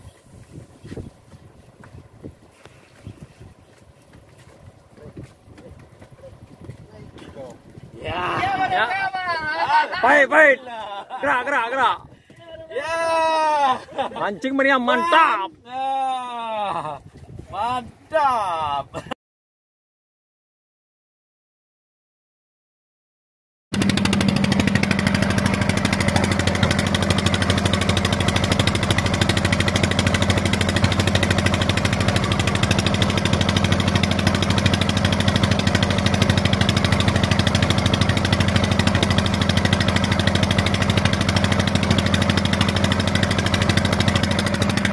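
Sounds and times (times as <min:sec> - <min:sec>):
boat engine running: 0:00.0 - 0:18.2, 0:23.7 - 0:44.9.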